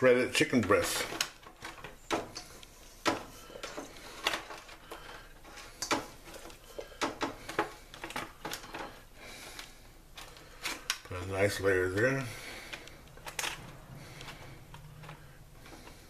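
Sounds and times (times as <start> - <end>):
foil pan crinkling and tapping: 0.0 - 16.0.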